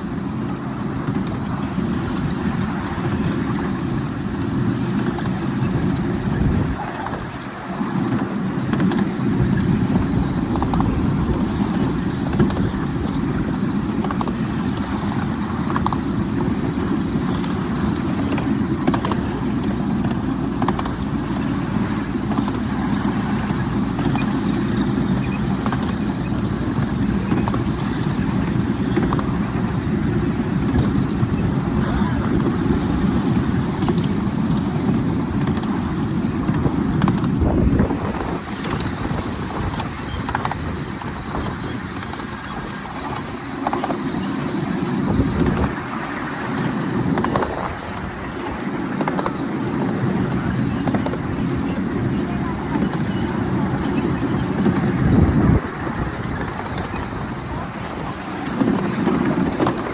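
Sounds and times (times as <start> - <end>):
light clicks of train wheels: 0.0 - 31.8, 32.4 - 59.9
miniature train rumbling: 0.0 - 59.9.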